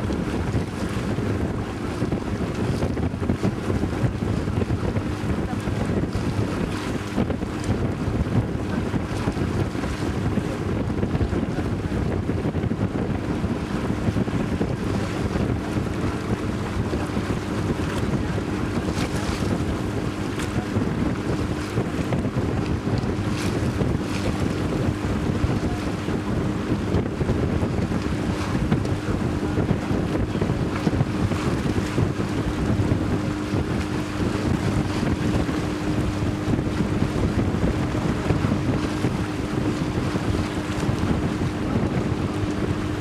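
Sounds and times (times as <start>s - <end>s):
boat motor droning: 0.0s - 43.0s
choppy water against boat: 0.0s - 43.0s
wind buffeting microphone: 0.0s - 43.0s.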